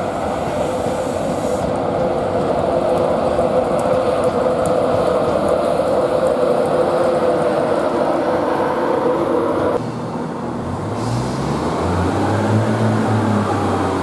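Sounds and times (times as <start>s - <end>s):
train noise: 0.0s - 14.0s.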